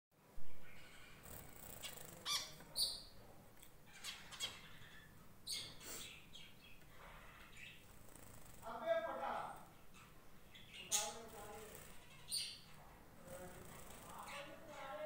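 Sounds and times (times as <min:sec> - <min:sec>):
pet birds chirping: 0:00.5 - 0:15.0.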